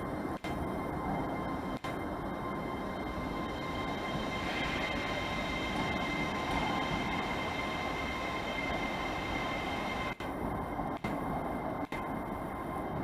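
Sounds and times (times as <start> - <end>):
high-pitched whine: 0.0 - 13.0
train rumbling past: 1.0 - 11.5.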